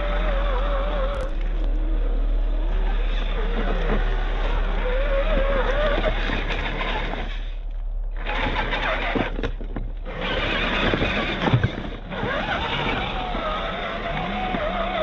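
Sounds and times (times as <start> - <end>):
electric motor and gearbox whining: 0.0 - 15.0.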